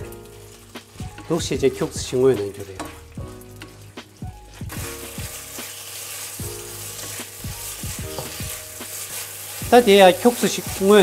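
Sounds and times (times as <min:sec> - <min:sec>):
beef sizzling in hot oil: 0:00.0 - 0:11.0.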